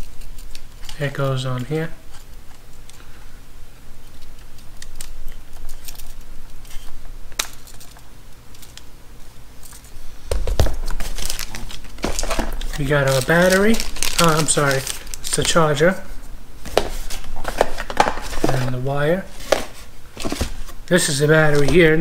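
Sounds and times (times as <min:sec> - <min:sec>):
rustling: 0:04.0 - 0:22.0.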